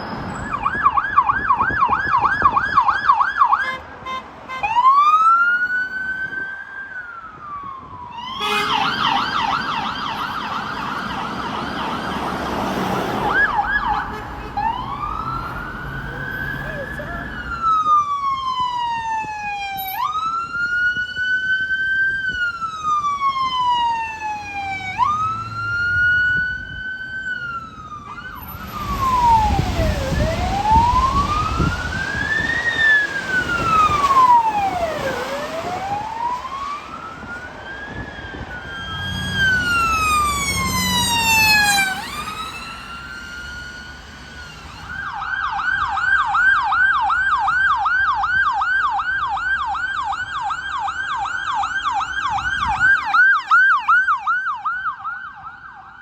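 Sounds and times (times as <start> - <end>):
emergency vehicle siren: 0.0 - 56.0
engine and road noise: 0.0 - 56.0.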